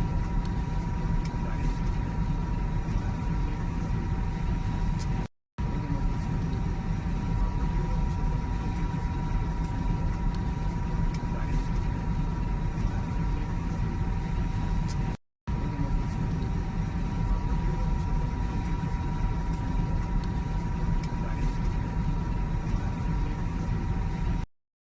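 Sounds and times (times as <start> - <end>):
airliner cabin rumble: 0.0 - 24.4.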